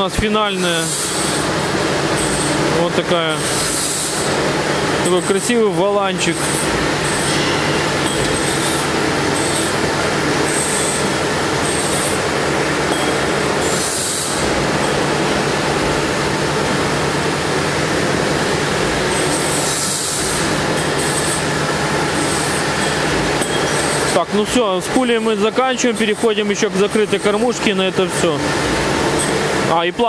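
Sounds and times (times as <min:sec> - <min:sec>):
motor humming with hiss: 0:00.0 - 0:16.8, 0:17.6 - 0:29.7.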